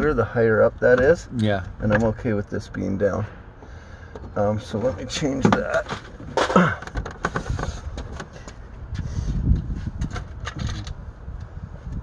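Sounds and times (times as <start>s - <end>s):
low rumble of handling: 0.0s - 12.0s.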